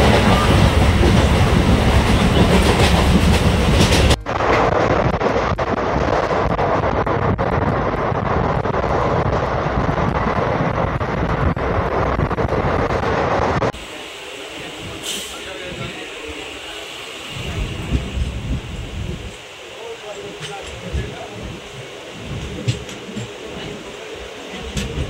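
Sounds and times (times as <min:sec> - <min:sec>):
train wheel and rail noise: 0:00.0 - 0:25.0.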